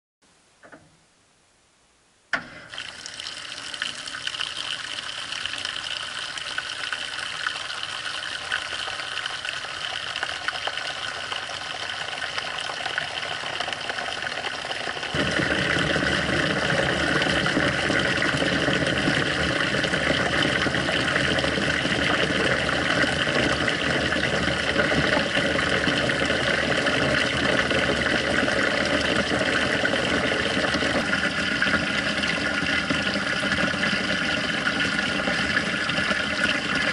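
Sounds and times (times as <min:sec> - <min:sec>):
water gushing into washing machine: 0:02.6 - 0:36.9.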